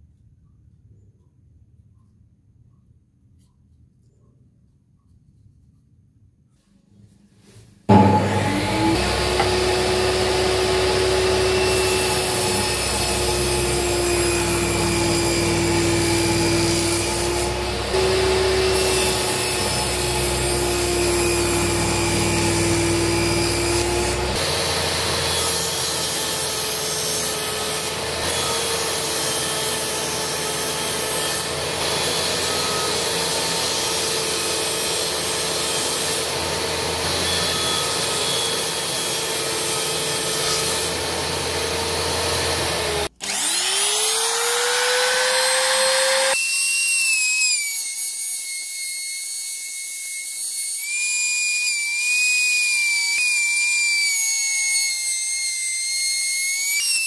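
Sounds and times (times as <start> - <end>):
table saw cutting wood: 7.9 - 57.0
table saw high-pitched whine: 7.9 - 57.0.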